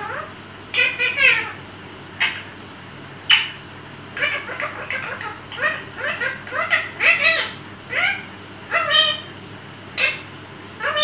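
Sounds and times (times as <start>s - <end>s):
parakeet calling: 0.0s - 1.6s, 2.2s - 2.6s, 3.2s - 9.4s, 10.0s - 11.0s
parakeet chattering: 0.0s - 1.6s, 2.2s - 2.5s, 3.3s - 9.3s, 10.0s - 11.0s.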